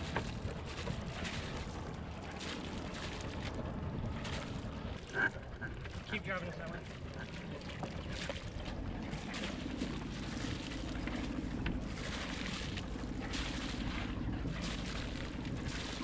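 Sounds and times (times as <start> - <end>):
sea water rushing along hull: 0.0 - 16.0
wind buffeting microphone: 0.0 - 16.0.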